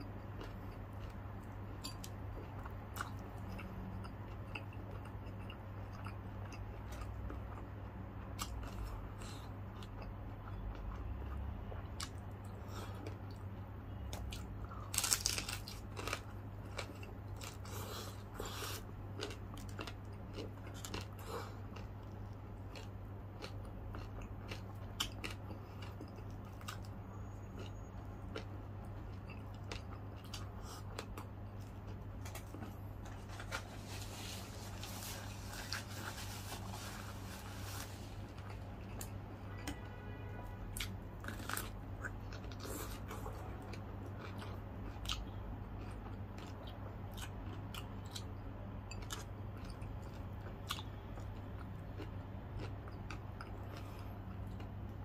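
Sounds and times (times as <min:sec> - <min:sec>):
steady low hum: 0:00.0 - 0:55.0
crunching and chewing crispy pork: 0:00.1 - 0:39.2, 0:40.8 - 0:55.0.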